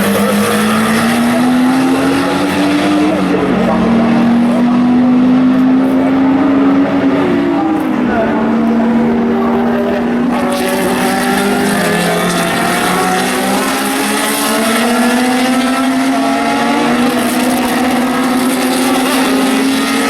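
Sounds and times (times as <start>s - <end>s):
race car engines accelerating: 0.0s - 20.0s.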